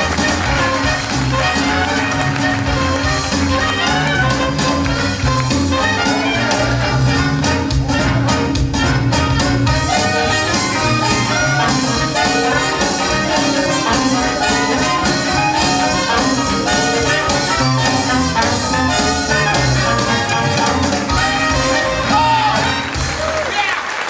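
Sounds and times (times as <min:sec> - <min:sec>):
brass band music: 0:00.0 - 0:24.0.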